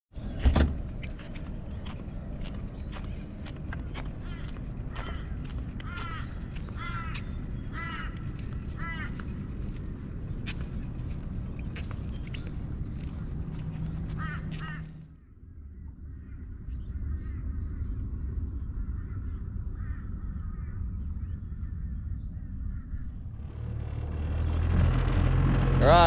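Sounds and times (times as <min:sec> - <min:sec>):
birds calling: 0:00.2 - 0:23.5.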